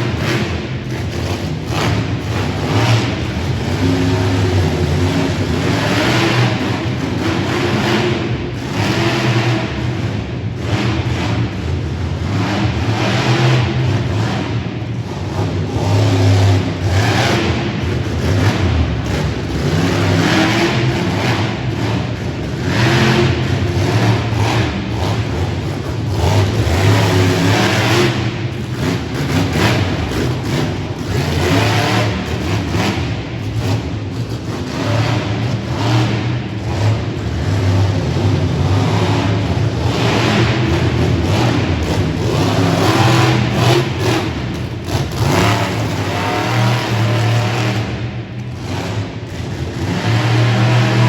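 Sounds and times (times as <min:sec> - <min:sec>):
monster truck engine revving: 0:00.0 - 0:51.0.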